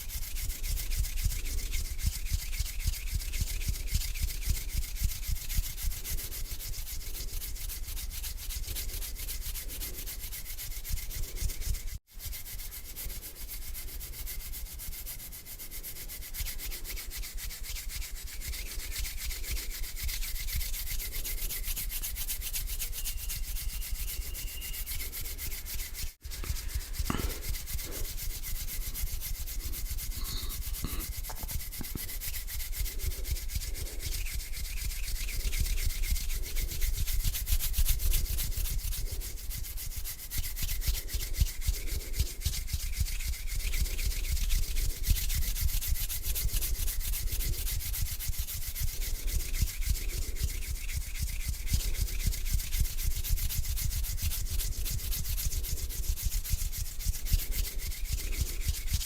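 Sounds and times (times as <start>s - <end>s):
hands rubbing together: 0.0s - 59.0s.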